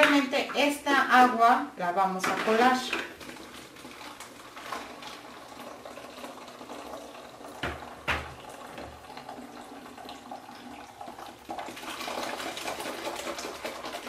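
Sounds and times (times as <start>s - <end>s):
liquid pouring and splashing: 2.4s - 14.0s.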